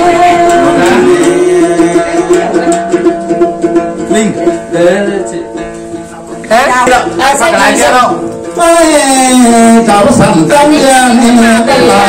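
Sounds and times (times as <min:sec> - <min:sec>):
long-necked lute plucked: 0:00.0 - 0:10.5.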